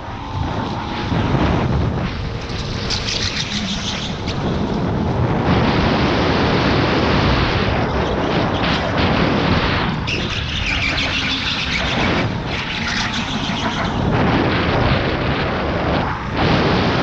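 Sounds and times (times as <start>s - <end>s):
tyre noise on track: 0.0s - 17.0s
wind rush on microphone: 0.0s - 17.0s.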